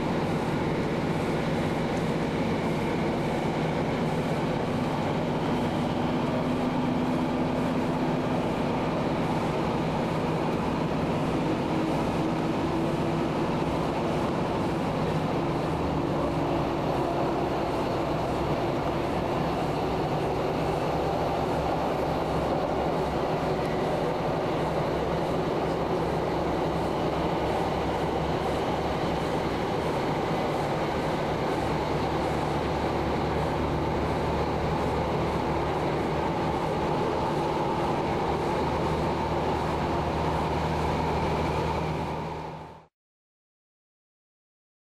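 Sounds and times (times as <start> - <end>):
train diesel engine drone: 0.0 - 42.9
wheel-on-rail rumble: 0.0 - 42.9.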